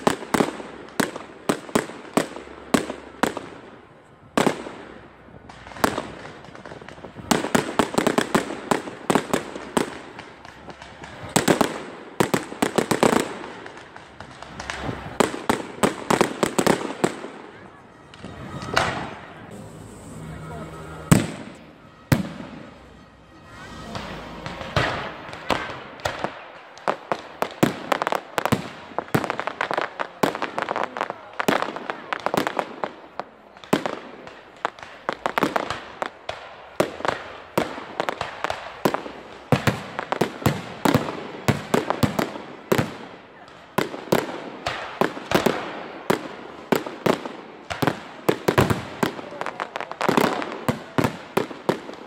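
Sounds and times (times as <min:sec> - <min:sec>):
firework crackle: 0:00.0 - 0:52.0.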